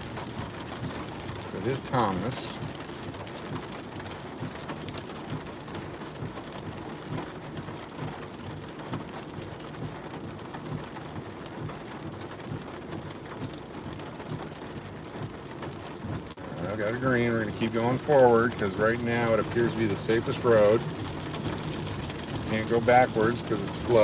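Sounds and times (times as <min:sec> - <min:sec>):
heavy rain drumming on a car: 0:00.0 - 0:24.0.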